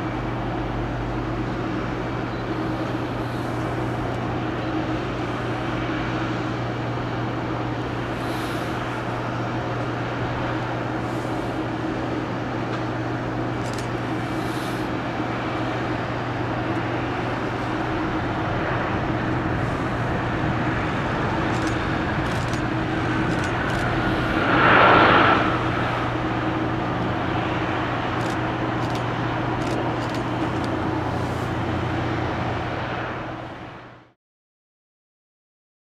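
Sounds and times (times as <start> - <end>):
rush with falling whine: 0.0 - 33.9
aircraft engines humming: 0.0 - 34.1.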